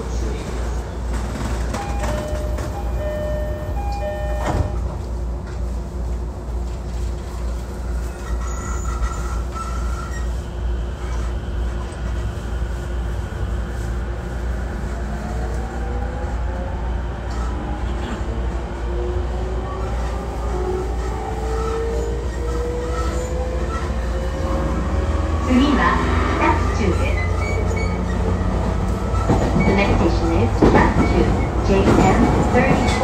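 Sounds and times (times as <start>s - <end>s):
low rumble of train: 0.0s - 33.0s.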